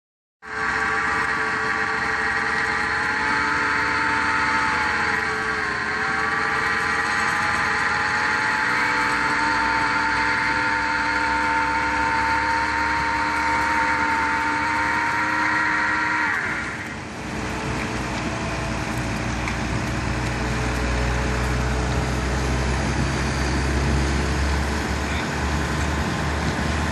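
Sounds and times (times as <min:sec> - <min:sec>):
concrete pump truck drone: 0:00.4 - 0:26.9
high mechanical whine: 0:00.4 - 0:26.9.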